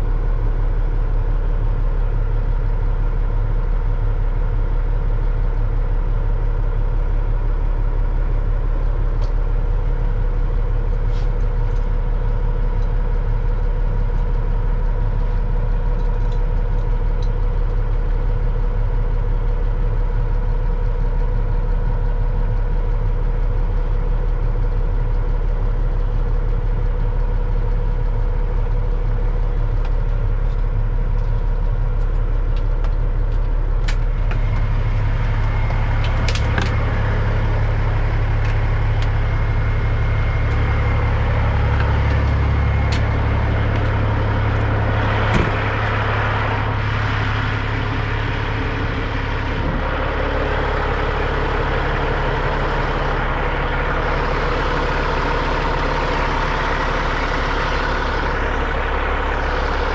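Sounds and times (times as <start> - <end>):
diesel engine drone from cab: 0.0 - 59.9.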